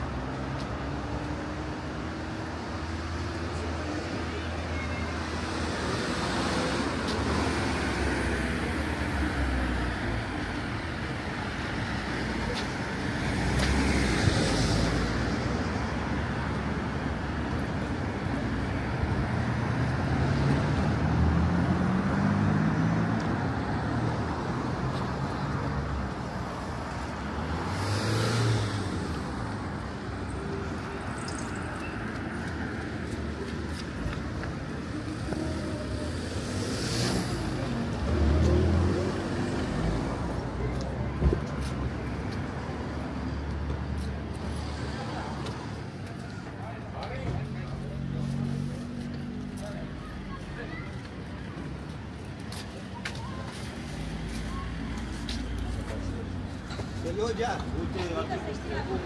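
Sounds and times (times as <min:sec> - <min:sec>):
hum of traffic: 0:00.0 - 0:59.0
vehicles passing close by: 0:00.0 - 0:59.0.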